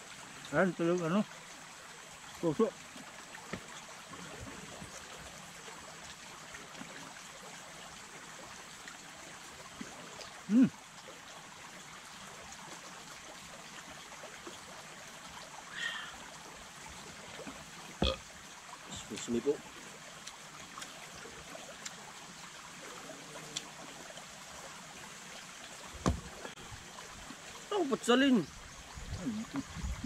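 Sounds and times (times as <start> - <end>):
creek water flowing: 0.0 - 30.0.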